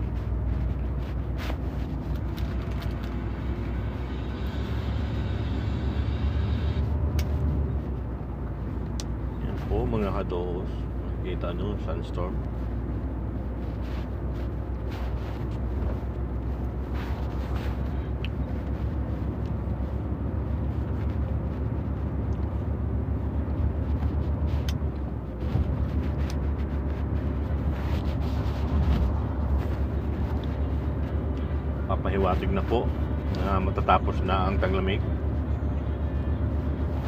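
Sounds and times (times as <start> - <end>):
road noise: 0.0 - 37.0
truck engine rumble from cab: 0.0 - 37.0.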